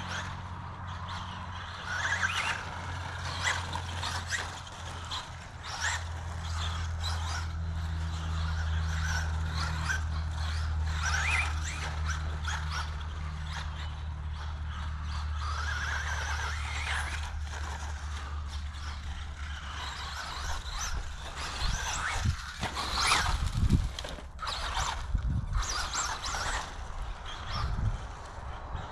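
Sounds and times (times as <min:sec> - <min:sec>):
rc car motor whining: 0:00.0 - 0:28.9
steady low hum: 0:00.0 - 0:28.9.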